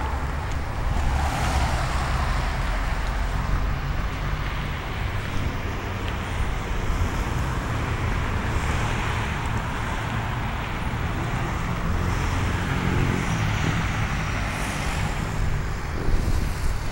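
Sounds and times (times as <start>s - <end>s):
road traffic rushing: 0.0s - 16.9s.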